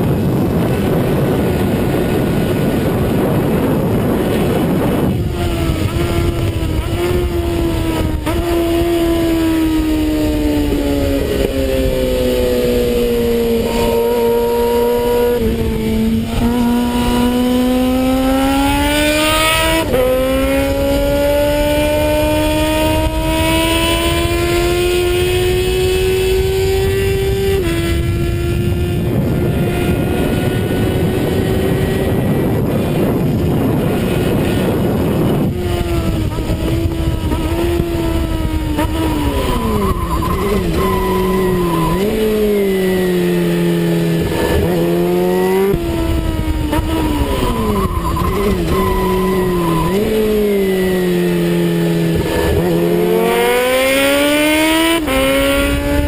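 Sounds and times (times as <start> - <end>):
motorcycle engine accelerating: 0.0 - 56.0
wind rush on microphone: 0.0 - 56.0.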